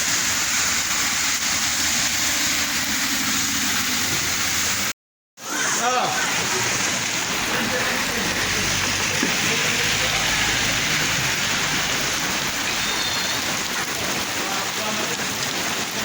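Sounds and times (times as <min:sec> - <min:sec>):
heavy rain on hard surfaces: 0:00.0 - 0:16.0.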